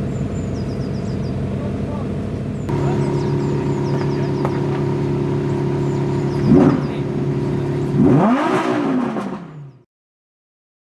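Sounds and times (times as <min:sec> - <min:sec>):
car engine idling and revving: 0:00.0 - 0:09.9.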